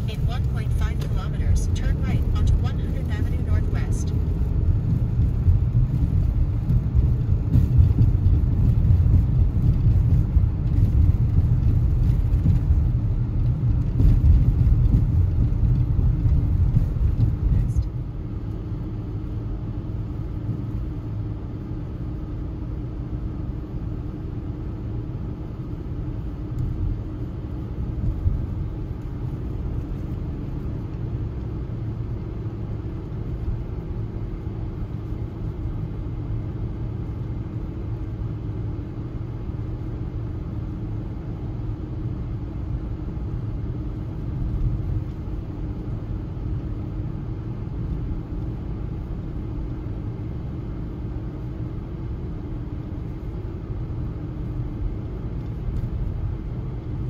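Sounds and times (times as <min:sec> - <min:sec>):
road and engine rumble in car: 0:00.0 - 0:57.0.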